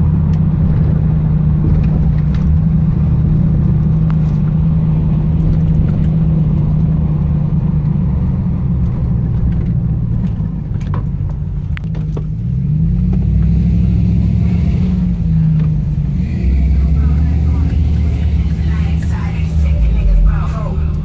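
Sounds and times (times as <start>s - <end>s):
pickup truck engine droning: 0.0s - 21.0s.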